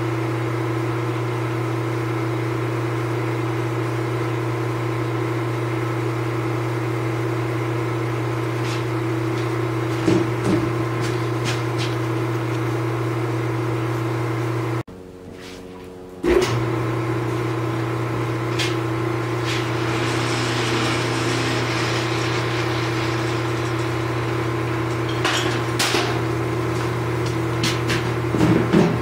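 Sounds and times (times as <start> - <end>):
machinery humming: 2.6 - 29.0.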